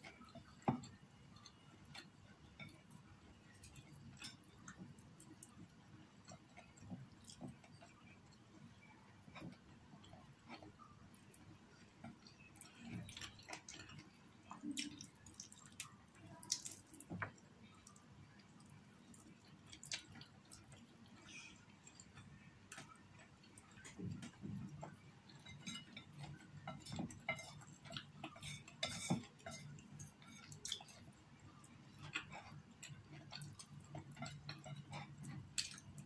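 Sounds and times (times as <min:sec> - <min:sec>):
quiet chewing: 0:00.0 - 0:36.0.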